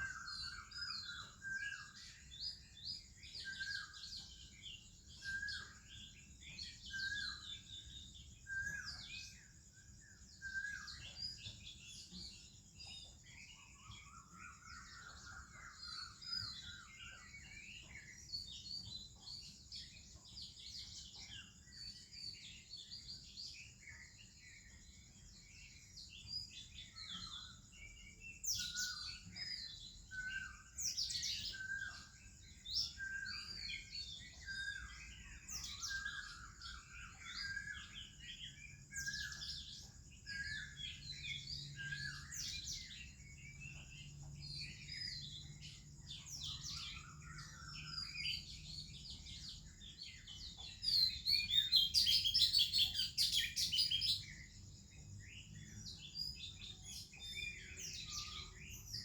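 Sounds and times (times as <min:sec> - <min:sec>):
bird song: 0:00.0 - 0:59.0
birds chirping and whistling: 0:00.0 - 0:59.0.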